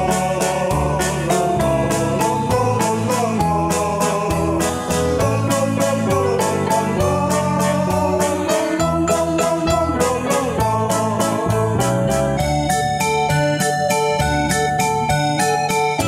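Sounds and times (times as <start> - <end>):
keyboard music over a beat: 0.0 - 16.0.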